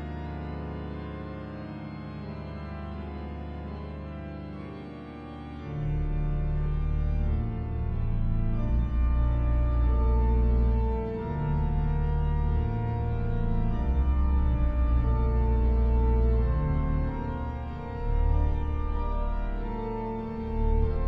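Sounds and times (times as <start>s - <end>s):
pipe organ chords: 0.0s - 21.0s.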